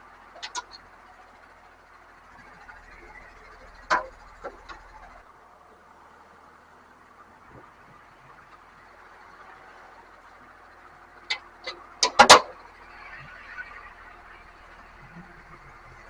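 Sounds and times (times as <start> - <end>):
faint low engine hum: 0.0 - 16.0.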